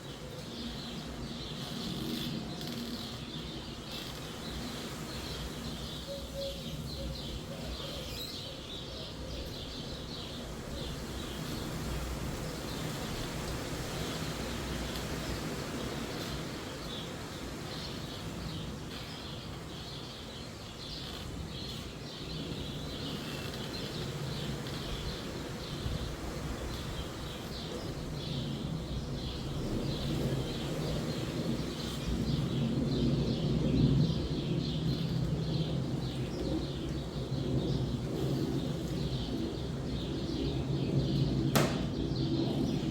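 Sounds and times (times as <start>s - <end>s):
small birds chirping: 0.0s - 42.9s
wind in the trees: 0.0s - 42.9s.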